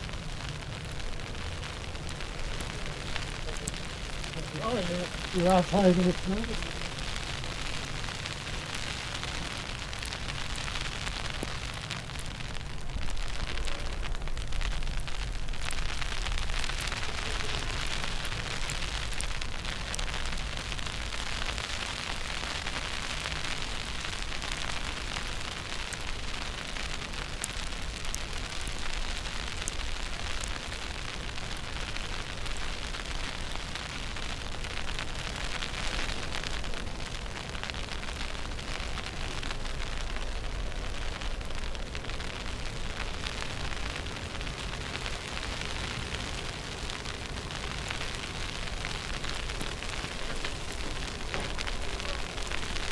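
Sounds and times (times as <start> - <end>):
snowstorm street hiss: 0.0 - 52.9.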